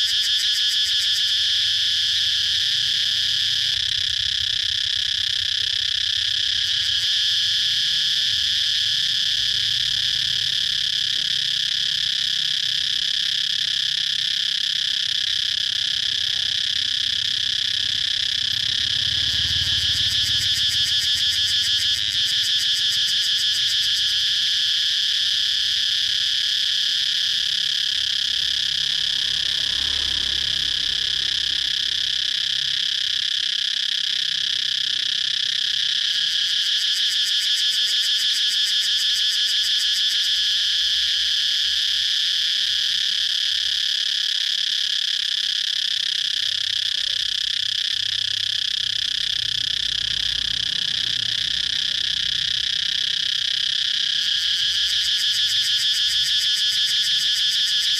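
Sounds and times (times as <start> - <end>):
cicada buzzing: 0.0 - 57.9.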